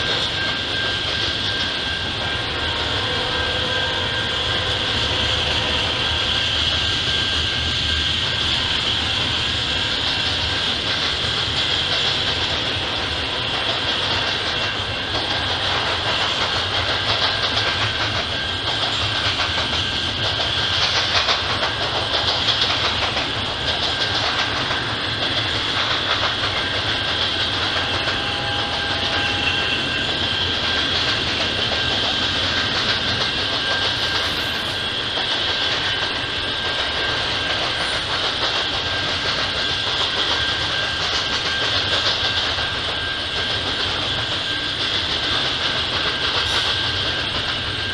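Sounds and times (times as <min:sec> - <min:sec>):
train wheels on rail: 0:00.0 - 0:47.9.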